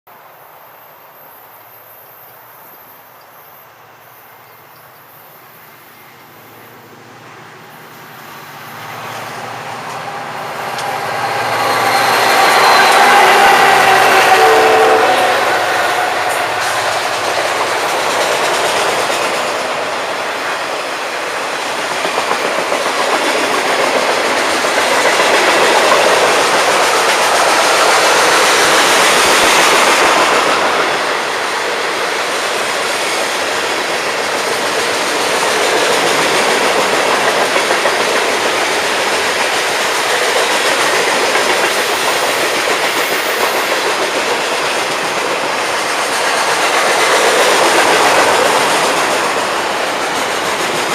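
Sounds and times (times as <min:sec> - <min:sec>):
freight train cars rolling: 0:05.8 - 0:50.9.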